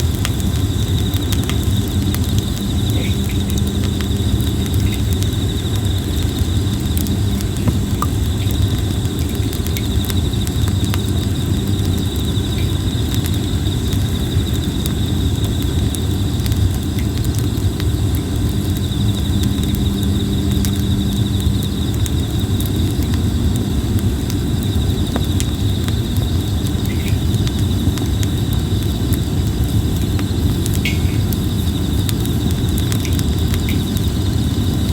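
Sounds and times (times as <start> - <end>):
campfire crackling and popping: 0.0 - 34.9
insects chirping: 0.0 - 34.9.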